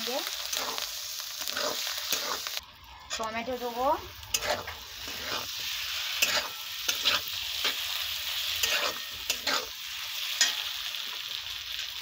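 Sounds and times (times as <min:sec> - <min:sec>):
food sizzling in oil: 0:00.0 - 0:12.0
spatula scraping pan: 0:00.5 - 0:10.7.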